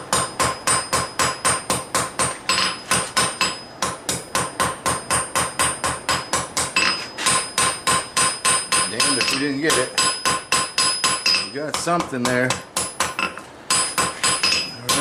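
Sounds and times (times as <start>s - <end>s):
hammer striking hot steel: 0.0s - 15.0s.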